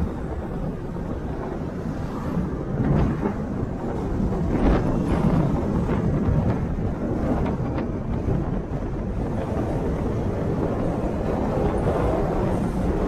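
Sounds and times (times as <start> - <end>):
wind and road noise from car: 0.0 - 13.0
wind buffeting microphone: 0.0 - 13.0.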